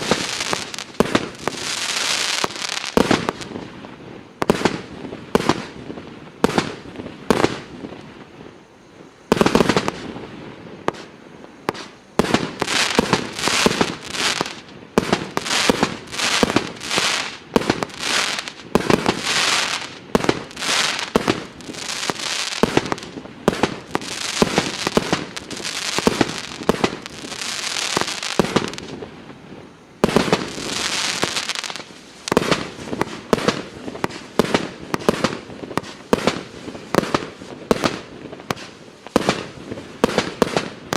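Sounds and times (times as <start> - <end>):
fireworks firing rapid shots: 0.0 - 3.6, 4.4 - 5.8, 9.3 - 10.1, 11.7 - 29.0, 30.0 - 40.9.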